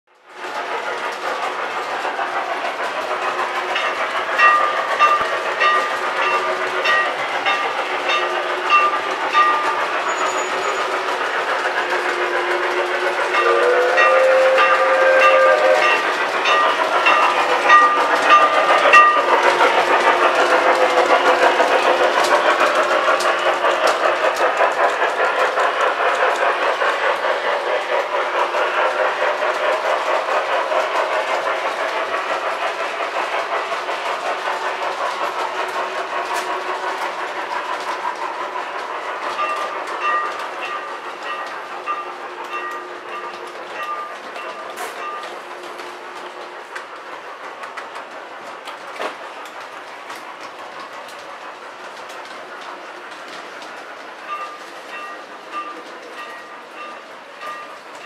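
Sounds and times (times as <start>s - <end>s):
model trains running on track: 0.1s - 58.0s.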